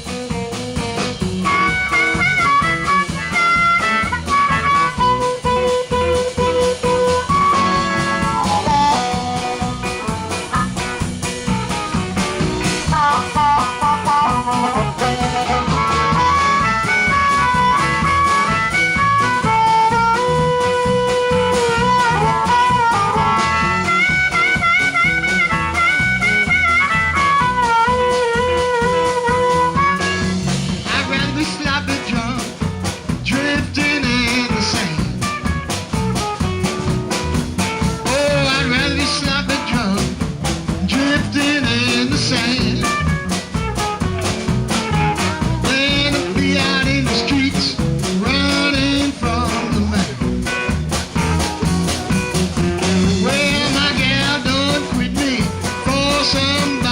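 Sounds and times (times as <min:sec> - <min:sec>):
bass: 0:00.0 - 0:56.9
drums: 0:00.0 - 0:56.9
guitar: 0:00.0 - 0:56.9.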